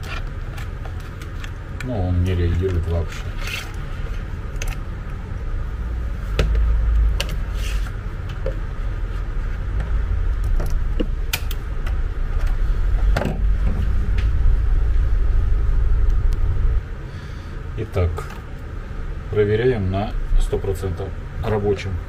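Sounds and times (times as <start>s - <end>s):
loud steady low rumble: 3.9s - 22.0s.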